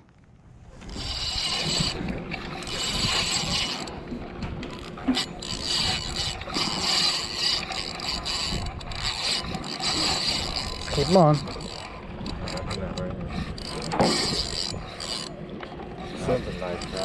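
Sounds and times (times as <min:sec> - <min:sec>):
hands rubbing on rod and reel: 0:00.6 - 0:04.0, 0:04.7 - 0:15.3, 0:16.0 - 0:17.0
fishing reel ratcheting: 0:00.8 - 0:17.0.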